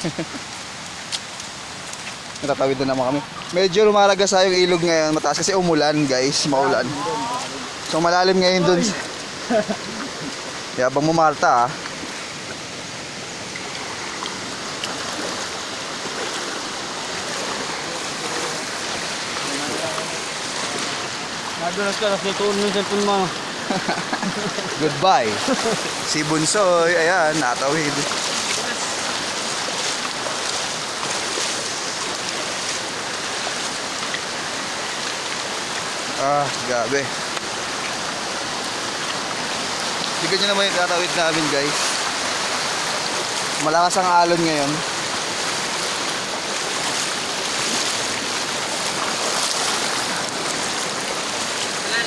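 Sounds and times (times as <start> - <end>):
river rushing over rocks: 0.0 - 52.0.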